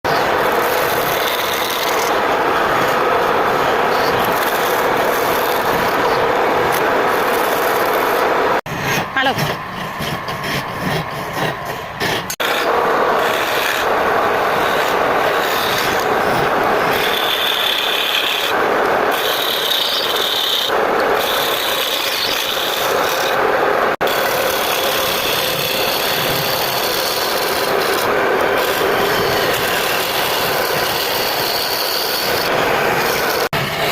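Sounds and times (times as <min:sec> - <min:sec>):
wood rasping: 0:00.1 - 0:23.4, 0:24.0 - 0:33.9.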